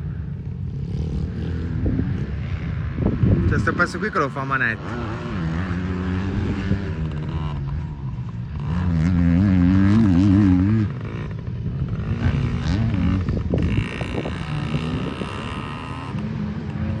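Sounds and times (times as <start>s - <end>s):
minibike engine revving: 0.1s - 17.0s.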